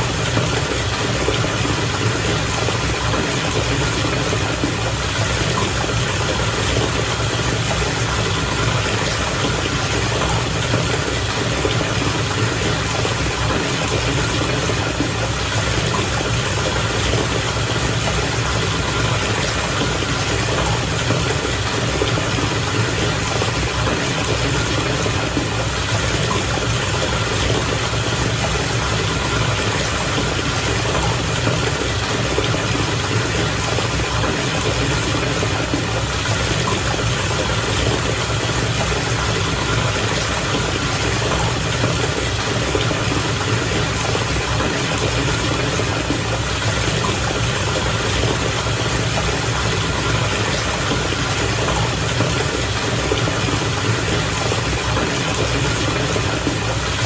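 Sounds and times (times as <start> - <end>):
bathwater bubbling and churning: 0.0 - 57.0.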